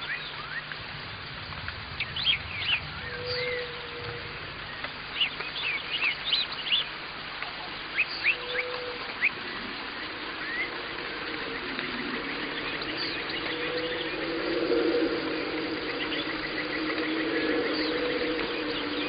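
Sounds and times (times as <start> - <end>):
steady background hiss: 0.0 - 19.0
birds chirping and whistling: 1.9 - 7.0, 7.8 - 19.0.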